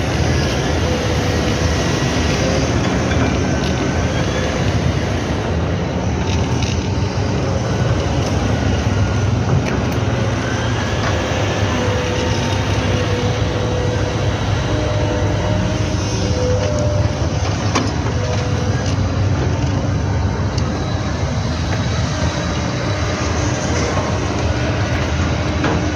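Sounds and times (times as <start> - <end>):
diesel engine rumbling at full throttle: 0.0 - 25.9
wavering whine: 0.0 - 25.9.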